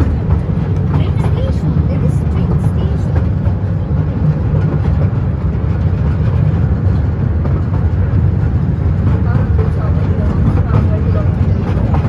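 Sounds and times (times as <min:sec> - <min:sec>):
small train low rumble: 0:00.0 - 0:12.0.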